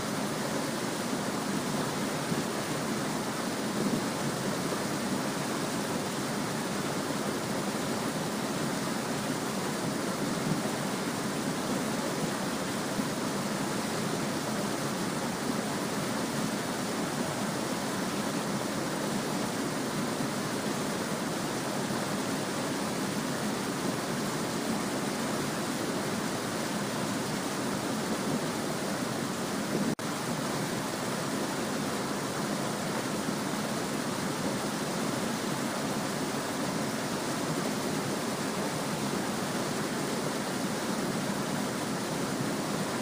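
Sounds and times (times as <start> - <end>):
stream babbling over stones: 0.0 - 43.0.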